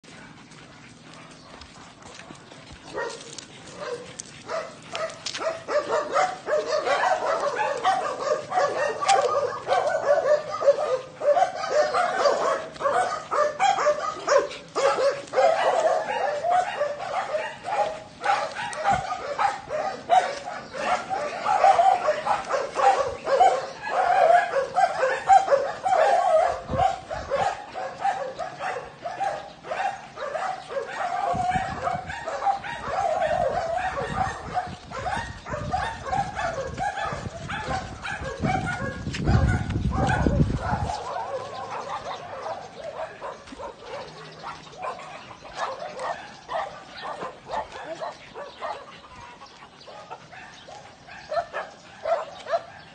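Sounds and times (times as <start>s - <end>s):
small dogs yipping and whining: 0.8s - 52.9s.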